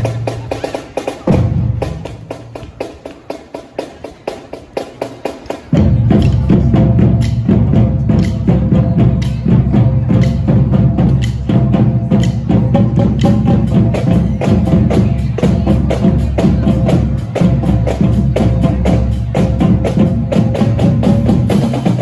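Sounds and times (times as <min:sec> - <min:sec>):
marching drum line: 0:00.0 - 0:22.0.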